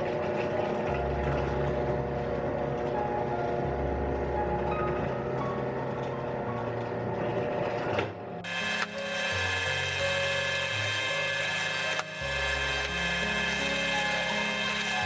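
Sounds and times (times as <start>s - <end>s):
drill press motor whine: 0.0s - 15.0s.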